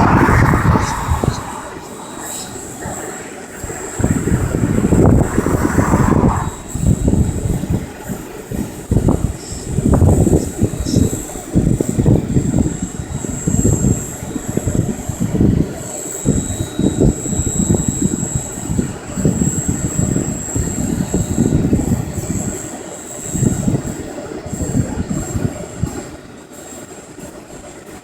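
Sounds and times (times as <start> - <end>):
wind buffeting microphone: 0.0 - 26.4
rc helicopter whine: 0.0 - 28.0.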